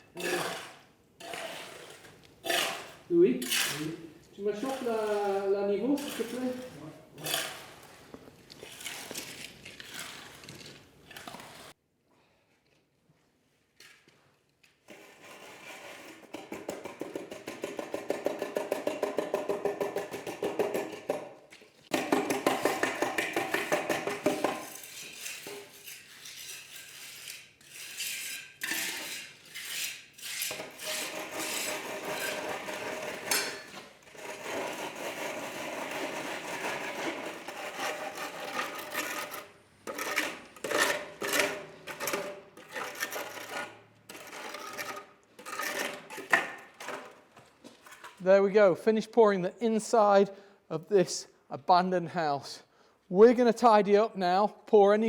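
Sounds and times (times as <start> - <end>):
tool scraping wet concrete: 0.0 - 11.8, 14.8 - 48.5.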